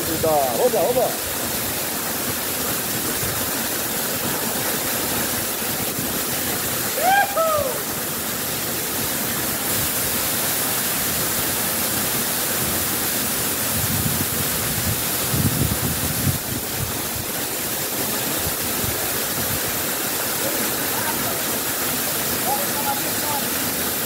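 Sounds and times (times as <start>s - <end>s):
waterfall rushing onto rocks: 0.0s - 24.0s.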